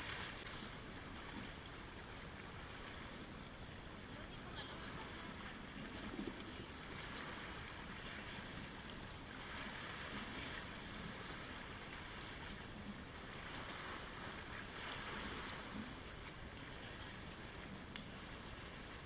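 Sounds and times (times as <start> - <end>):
waves lapping at shore: 0.0 - 19.0.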